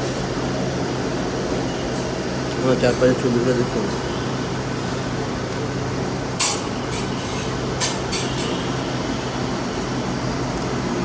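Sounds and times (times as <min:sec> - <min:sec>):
ventilation hum: 0:00.0 - 0:11.0.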